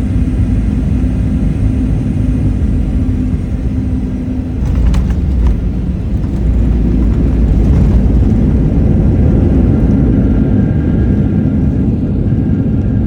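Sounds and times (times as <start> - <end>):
jet airliner rumble: 0.0 - 13.0.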